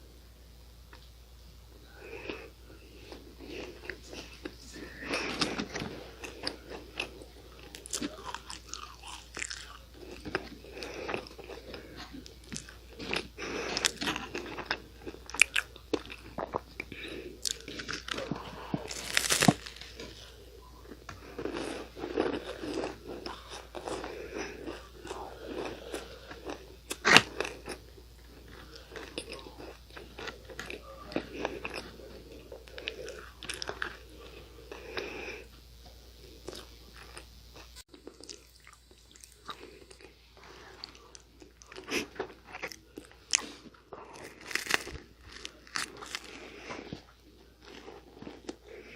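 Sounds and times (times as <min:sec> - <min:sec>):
crunching pastry cookie: 0:01.9 - 0:35.5, 0:36.2 - 0:48.9.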